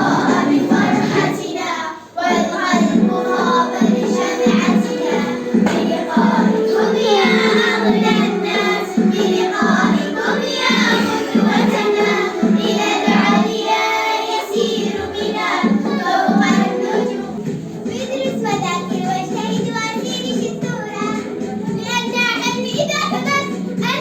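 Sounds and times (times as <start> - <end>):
music with a steady beat: 0.0 - 1.6, 2.2 - 24.0
children singing: 0.0 - 24.0.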